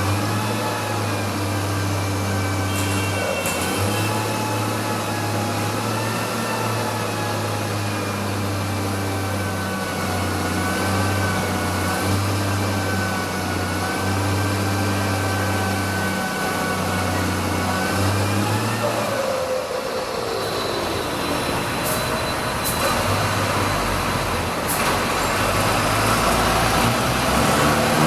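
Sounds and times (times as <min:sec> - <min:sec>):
compactor high whine: 0:00.0 - 0:27.2
garbage truck engine drone: 0:00.0 - 0:28.0.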